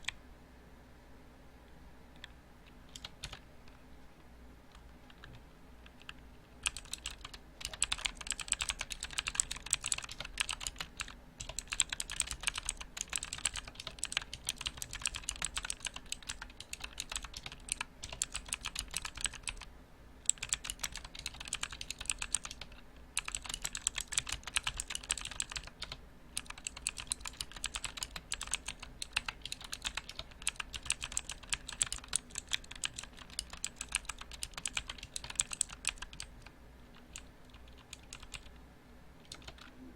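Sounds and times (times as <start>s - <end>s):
mechanical keyboard typing: 2.2s - 3.8s, 4.7s - 38.6s, 39.2s - 39.7s.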